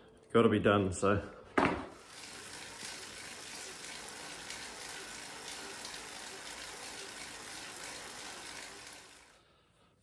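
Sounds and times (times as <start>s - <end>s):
bike trainer whirring: 1.6s - 9.7s.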